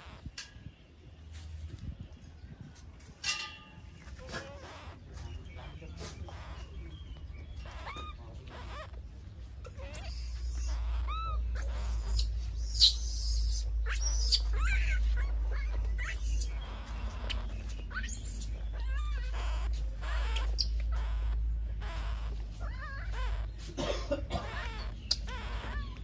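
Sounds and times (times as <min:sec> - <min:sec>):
baby monkeys squealing: 0:00.0 - 0:00.4, 0:04.2 - 0:26.0
low steady hum: 0:00.0 - 0:26.0.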